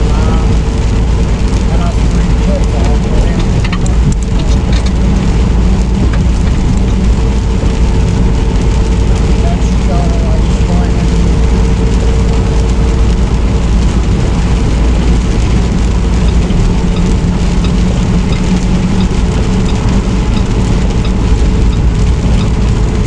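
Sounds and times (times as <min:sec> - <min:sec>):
truck engine and road drone: 0:00.0 - 0:23.0.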